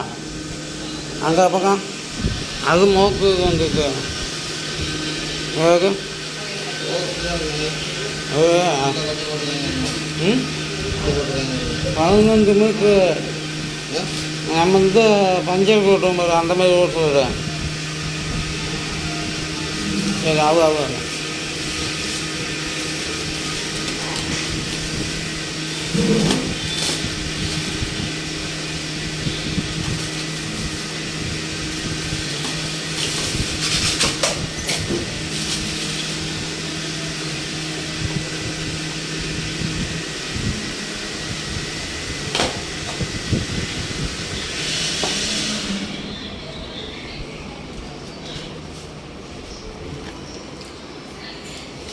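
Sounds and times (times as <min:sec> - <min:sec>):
air compressor humming and hissing: 0:00.0 - 0:51.9.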